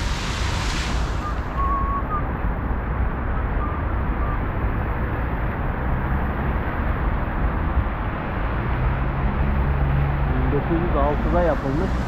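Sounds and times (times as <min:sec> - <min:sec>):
road traffic rumble and hiss: 0:00.0 - 0:12.0.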